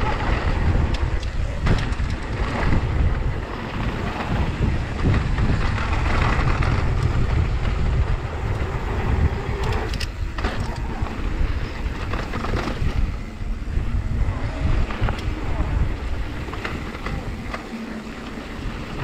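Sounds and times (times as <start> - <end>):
bike tyres rolling on dirt trail: 0.0 - 19.0
wind over microphone: 0.0 - 19.0.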